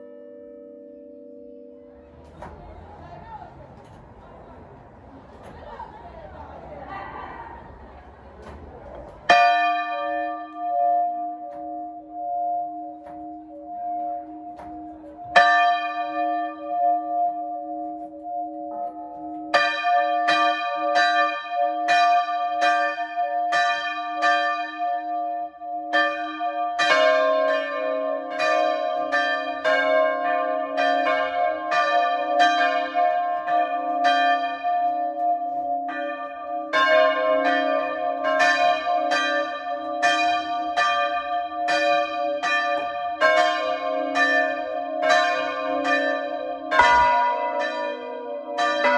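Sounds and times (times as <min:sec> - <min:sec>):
church bells ringing: 0:00.0 - 0:06.7, 0:07.5 - 0:48.9.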